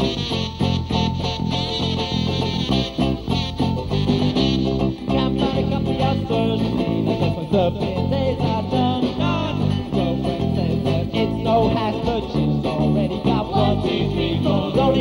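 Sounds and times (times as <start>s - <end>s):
bass guitar line: 0.0s - 15.0s
strummed guitars: 0.0s - 15.0s.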